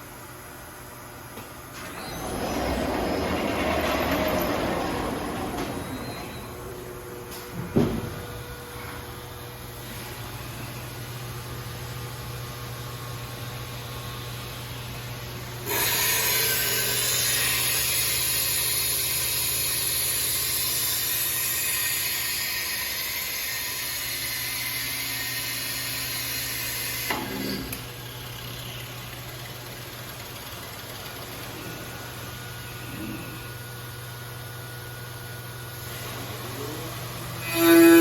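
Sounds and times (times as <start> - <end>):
machine humming steadily: 0.0 - 38.0.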